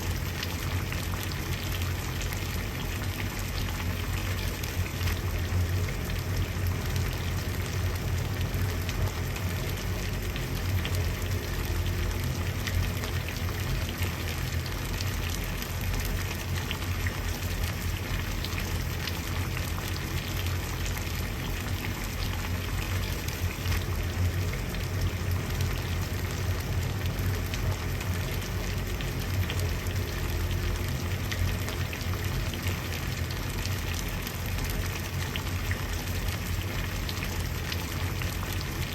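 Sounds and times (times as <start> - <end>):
water boiling: 0.0 - 38.9.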